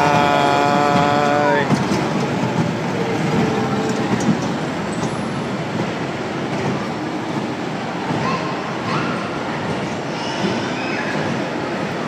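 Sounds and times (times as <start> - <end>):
miniature train rumbling and rattling: 0.0 - 12.0.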